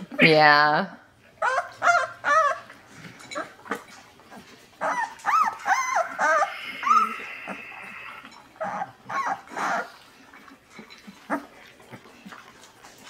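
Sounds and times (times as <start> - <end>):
puppies whining: 1.1 - 13.0.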